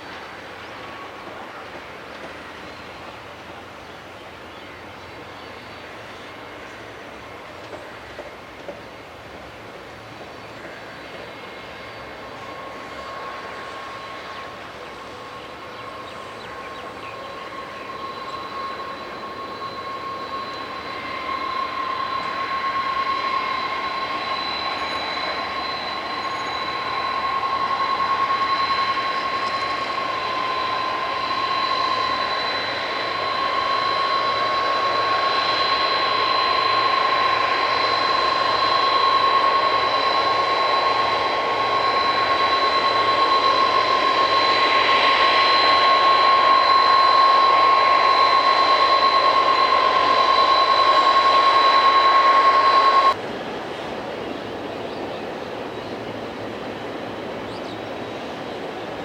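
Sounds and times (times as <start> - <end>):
aircraft engines whining: 0.0 - 59.0.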